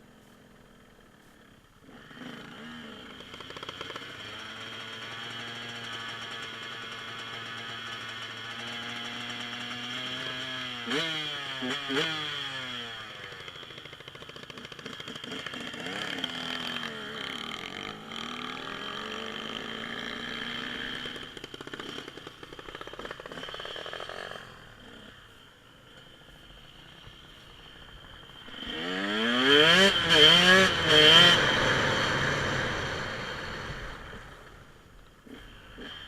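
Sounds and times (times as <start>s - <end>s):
dirt bike engine revving: 1.8s - 36.0s.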